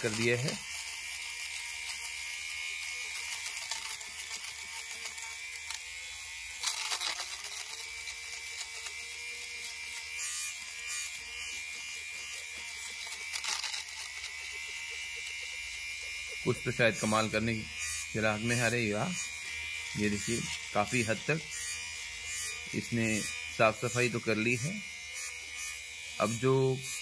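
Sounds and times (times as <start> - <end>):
lint remover motor whine: 0.0 - 27.0.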